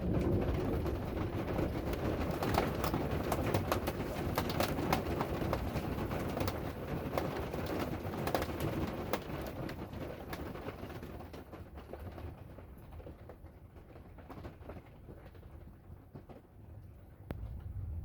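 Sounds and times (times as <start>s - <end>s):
hailstones tapping: 0.0s - 16.6s
rain patter: 0.0s - 18.0s.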